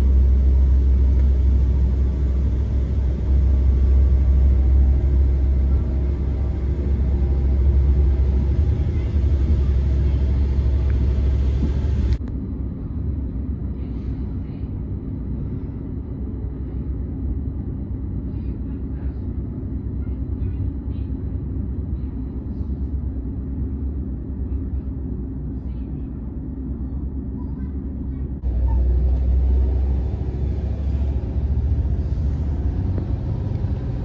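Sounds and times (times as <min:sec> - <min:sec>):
train rumble inside carriage: 0:00.0 - 0:34.0.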